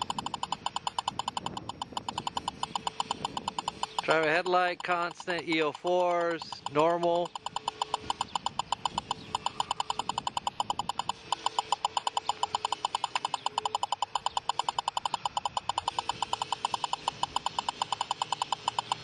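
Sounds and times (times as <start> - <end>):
speed gun beeping rapidly: 0.0 - 19.0.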